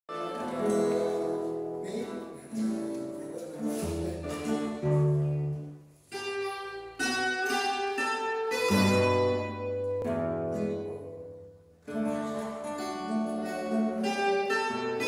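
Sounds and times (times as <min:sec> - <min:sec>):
classical guitar chords: 0:00.1 - 0:15.0
guitar picking melody: 0:00.1 - 0:15.0.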